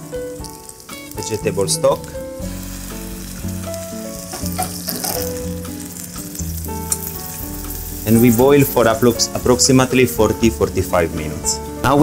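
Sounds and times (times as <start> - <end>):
background music: 0.0 - 12.0
vegetables sizzling in hot oil: 0.0 - 12.0.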